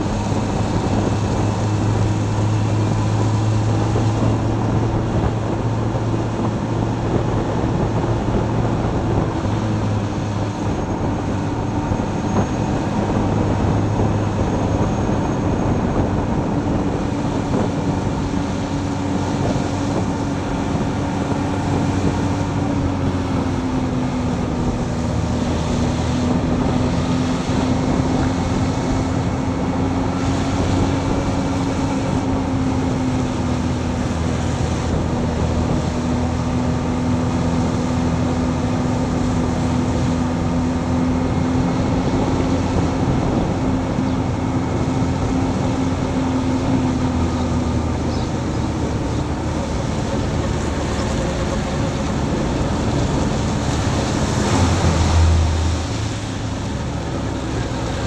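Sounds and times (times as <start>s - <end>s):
motorcycle engine drone: 0.0s - 58.0s
wind and road noise: 0.0s - 58.0s.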